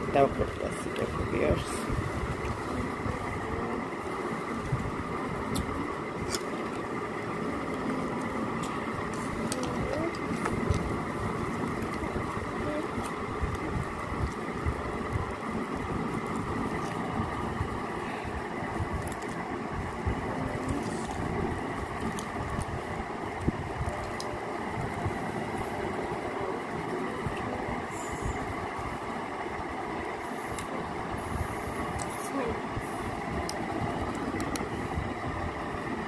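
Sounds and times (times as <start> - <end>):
mechanical hum with whining tones: 0.0 - 36.0.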